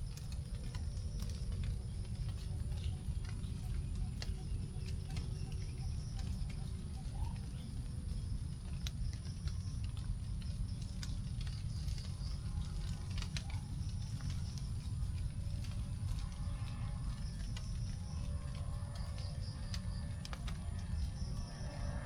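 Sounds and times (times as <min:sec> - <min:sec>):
raindrops tapping on leaves: 0:00.0 - 0:22.0
steady low rumble: 0:00.0 - 0:22.0.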